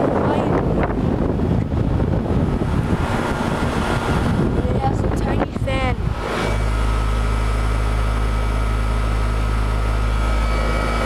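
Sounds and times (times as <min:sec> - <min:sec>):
heat pump unit humming: 0:00.0 - 0:11.0.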